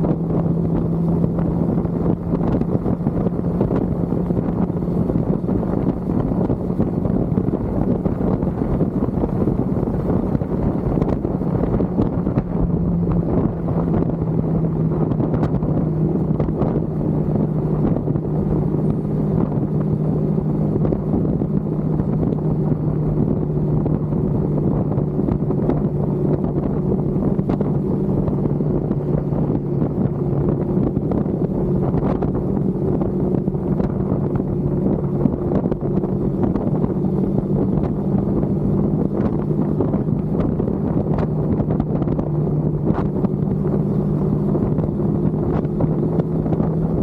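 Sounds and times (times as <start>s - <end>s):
motorcycle engine cruising: 0.0s - 47.0s
wind noise on microphone: 0.0s - 47.0s.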